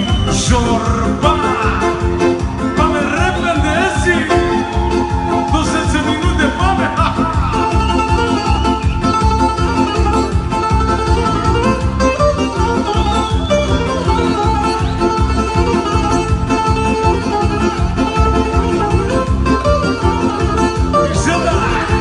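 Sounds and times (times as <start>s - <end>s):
plucked string melody: 0.0s - 22.0s.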